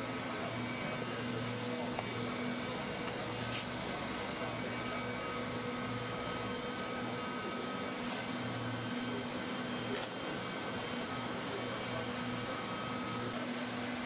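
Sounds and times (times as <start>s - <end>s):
hot-air welder blower humming: 0.0s - 14.0s.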